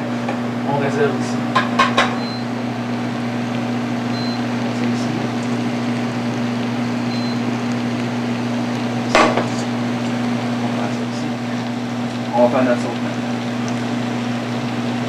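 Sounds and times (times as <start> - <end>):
range hood fan humming: 0.0 - 15.0.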